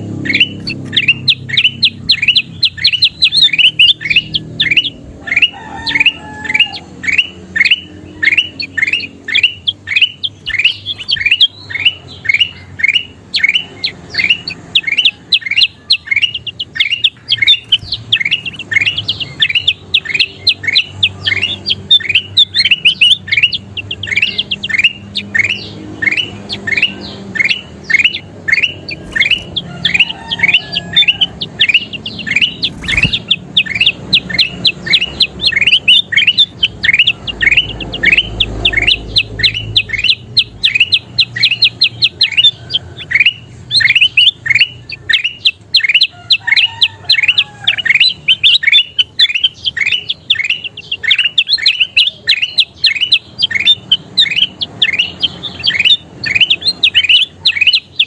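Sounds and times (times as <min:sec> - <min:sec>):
bird calling falling notes: 0:00.0 - 0:58.0.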